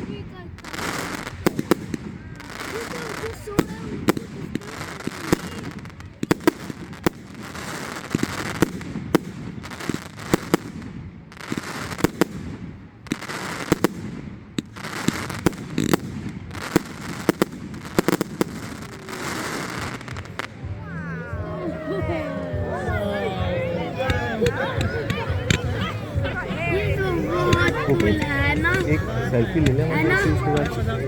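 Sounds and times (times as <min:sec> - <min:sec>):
fireworks bangs: 0:00.0 - 0:31.0
fireworks crackling: 0:00.0 - 0:31.0.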